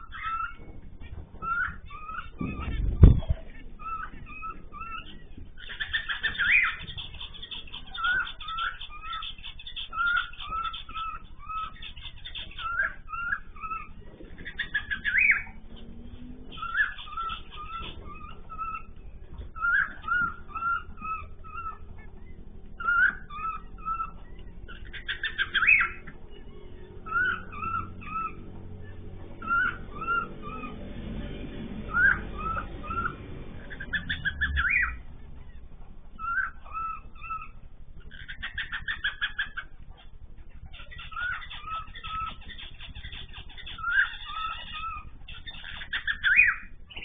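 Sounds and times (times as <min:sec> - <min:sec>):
birds chattering rapidly: 0:00.0 - 0:47.0
birds chirping: 0:00.0 - 0:47.0.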